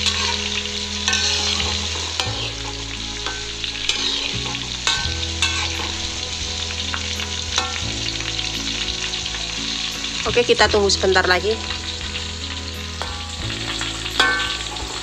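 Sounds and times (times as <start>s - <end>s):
food deep-frying sizzle: 0.0s - 15.0s
spatula scraping and knocking wok: 0.0s - 15.0s.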